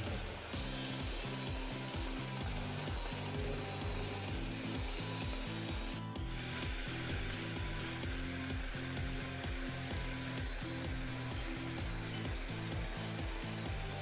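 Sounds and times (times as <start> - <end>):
background music low held notes: 0.0 - 14.0.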